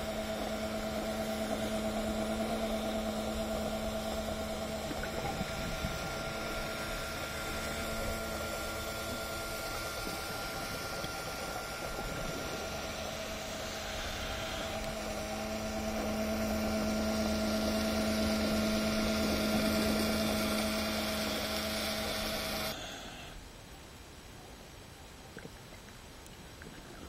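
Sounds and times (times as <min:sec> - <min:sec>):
boat engine droning: 0:00.0 - 0:23.4.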